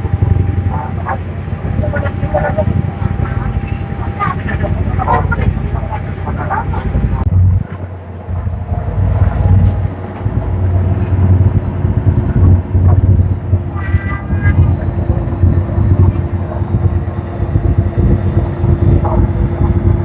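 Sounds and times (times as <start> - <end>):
constant hum: 0.0 - 20.0
ferry engines rumbling: 0.0 - 20.0.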